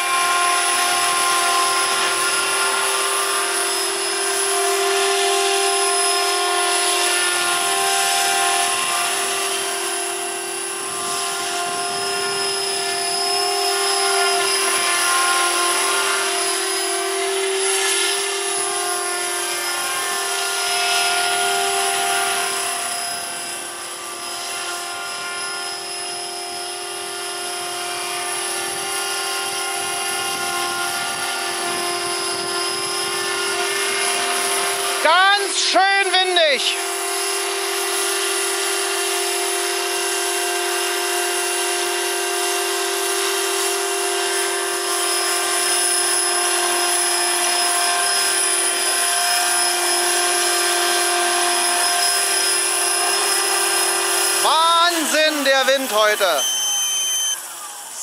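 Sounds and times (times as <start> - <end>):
motor and gear whine: 0.0 - 58.0
rotor blade noise: 0.0 - 58.0.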